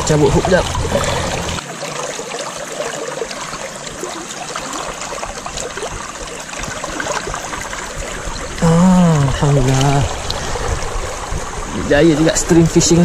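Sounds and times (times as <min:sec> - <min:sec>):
stream water rushing trickle: 0:00.0 - 0:13.0.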